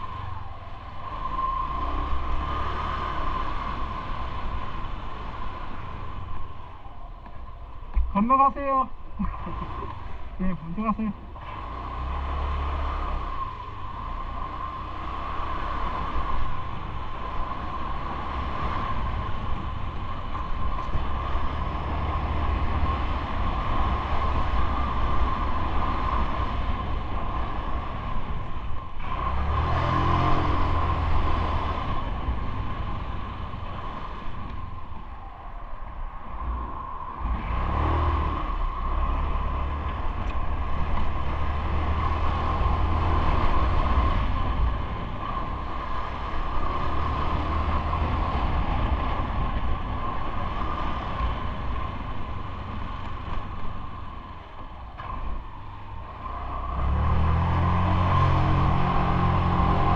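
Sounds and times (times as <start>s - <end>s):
traffic passing: 0.0s - 59.9s
wind on microphone: 11.4s - 59.9s.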